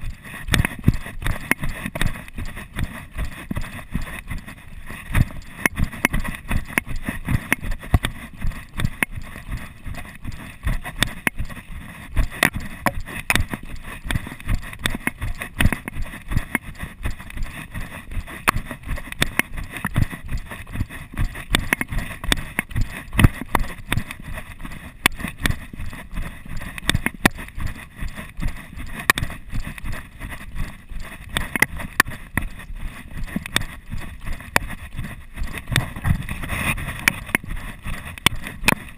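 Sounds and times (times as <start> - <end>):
running footsteps on dirt: 0.0 - 38.9.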